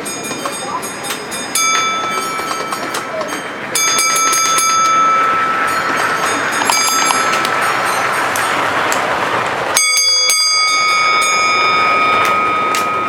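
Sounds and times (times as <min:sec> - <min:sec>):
model train motor whine: 0:01.1 - 0:13.0.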